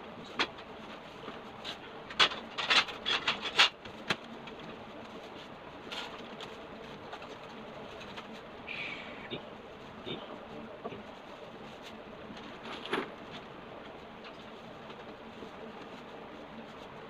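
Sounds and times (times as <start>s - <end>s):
cardboard and paper rustling: 0.2s - 8.5s, 9.7s - 17.0s.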